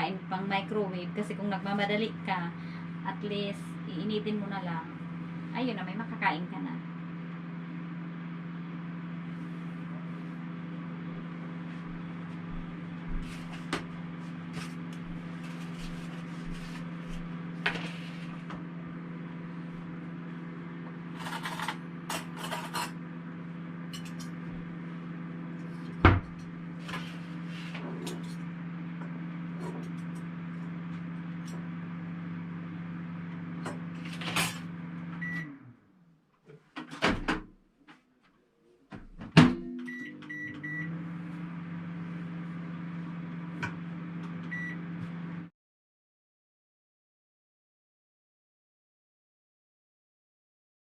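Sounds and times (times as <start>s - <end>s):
microwave oven humming: 0.0s - 36.3s, 38.9s - 45.5s.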